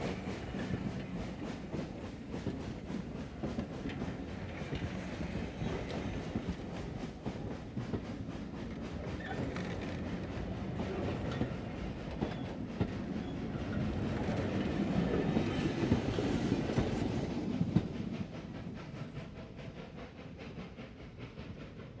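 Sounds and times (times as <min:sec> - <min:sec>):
train rumbling up a grade: 0:00.0 - 0:22.0.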